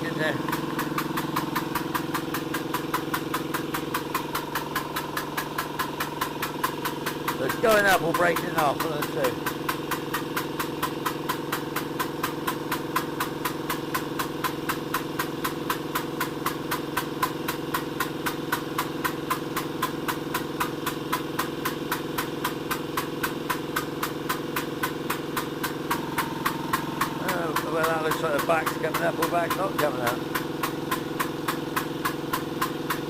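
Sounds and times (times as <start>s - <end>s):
air compressor running: 0.0s - 33.0s.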